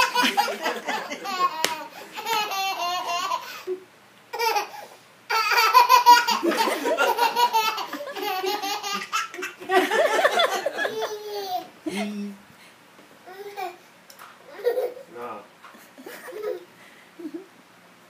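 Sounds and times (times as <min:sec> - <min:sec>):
toddler laughing: 0:00.0 - 0:12.0, 0:13.3 - 0:13.8, 0:14.5 - 0:15.1, 0:16.0 - 0:17.5.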